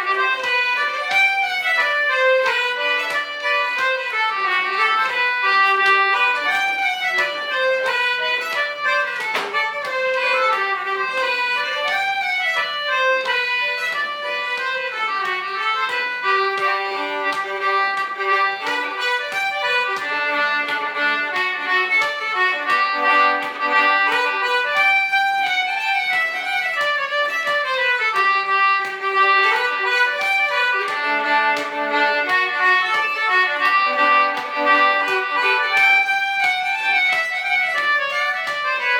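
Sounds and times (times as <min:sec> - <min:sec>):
fiddle playing folk tune: 0:00.0 - 0:38.9.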